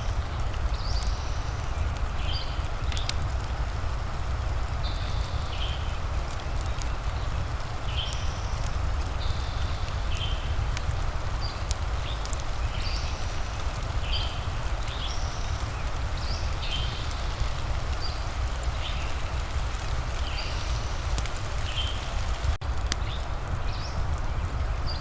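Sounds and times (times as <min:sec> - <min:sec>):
fireplace crackling: 0:00.0 - 0:24.8
steady rain: 0:00.0 - 0:25.0.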